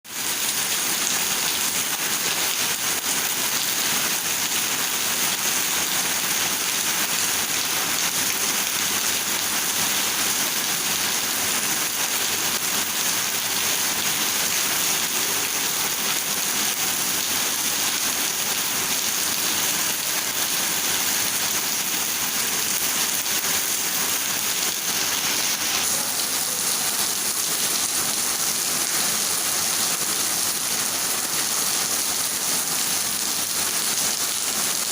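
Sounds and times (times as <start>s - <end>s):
rain falling steadily: 0.1s - 34.9s.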